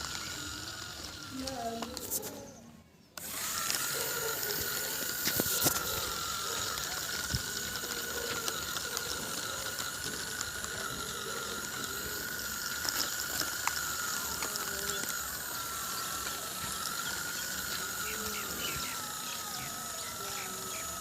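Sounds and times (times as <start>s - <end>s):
plastic gears chattering: 0.0s - 2.6s, 3.2s - 21.0s
small electric motor whine: 0.0s - 2.6s, 3.2s - 21.0s.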